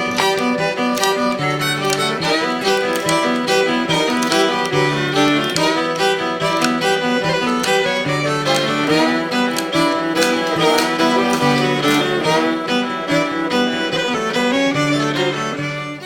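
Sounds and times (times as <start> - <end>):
sustained low string notes: 0.0 - 16.0
violin melody: 0.0 - 16.0.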